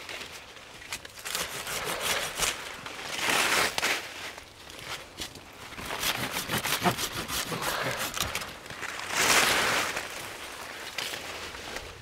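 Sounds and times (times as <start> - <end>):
leaves rustling: 0.0 - 12.0
twigs and wood crackling: 0.0 - 12.0.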